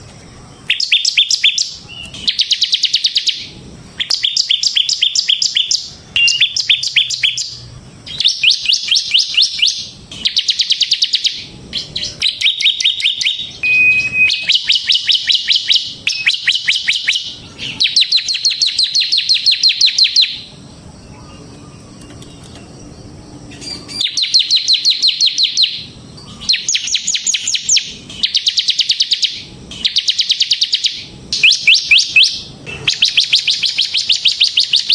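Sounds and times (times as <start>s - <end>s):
bird singing rapid trills: 0.0s - 34.9s.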